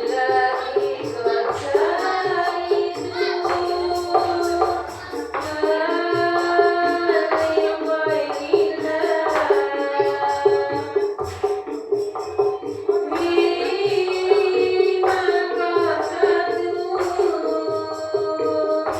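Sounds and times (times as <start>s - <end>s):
frame drums beating: 0.0s - 18.9s.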